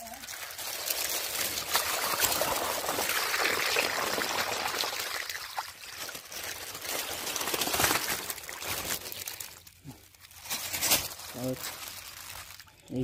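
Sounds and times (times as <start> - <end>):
water pouring into a pond: 0.0 - 12.8.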